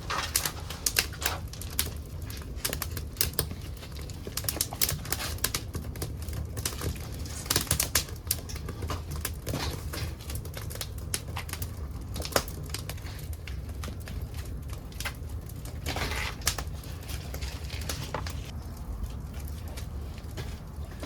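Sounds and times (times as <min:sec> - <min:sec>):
low rumble of burning: 0:00.0 - 0:21.0
wood fire crackling: 0:00.0 - 0:21.0
wood popping and snapping: 0:00.0 - 0:21.0.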